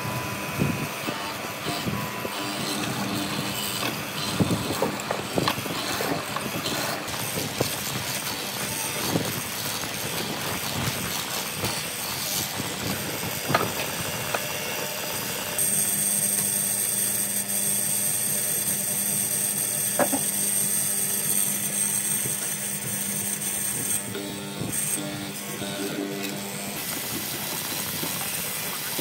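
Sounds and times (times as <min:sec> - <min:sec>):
mortiser cutting wood: 0:00.0 - 0:29.0
motor hum with high whine: 0:00.0 - 0:29.0.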